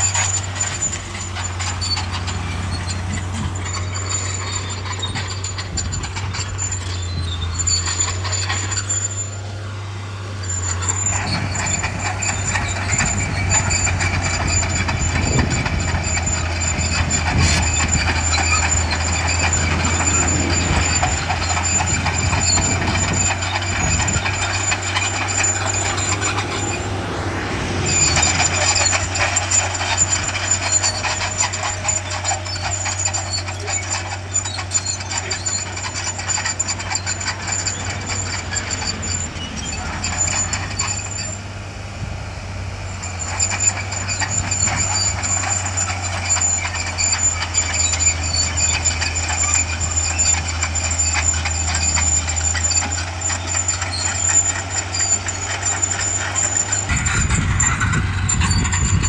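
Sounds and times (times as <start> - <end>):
bulldozer engine low drone: 0.0 - 59.0.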